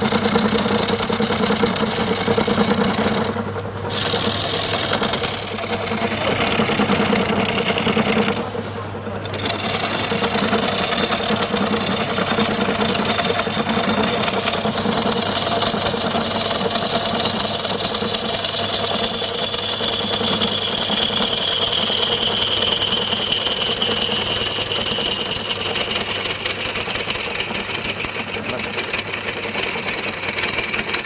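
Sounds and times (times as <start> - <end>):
wood lathe turning tool cutting: 0.0 - 31.0.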